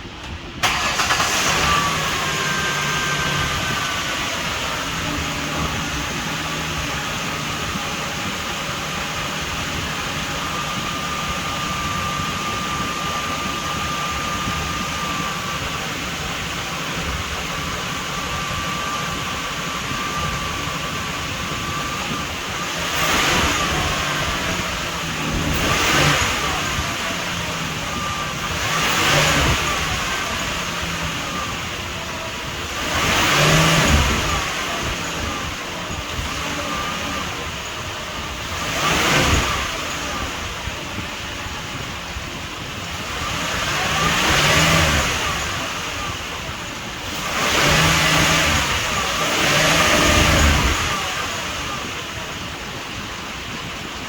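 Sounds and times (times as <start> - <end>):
car engine idling: 0.0 - 54.0
engine revving: 0.0 - 54.0.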